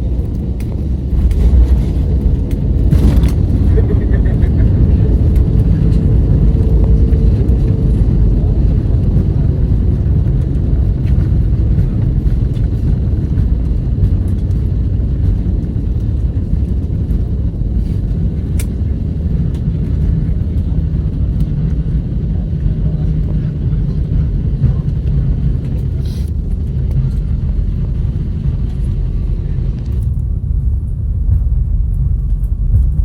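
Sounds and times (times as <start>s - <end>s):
aircraft cabin rumble: 0.0s - 33.0s.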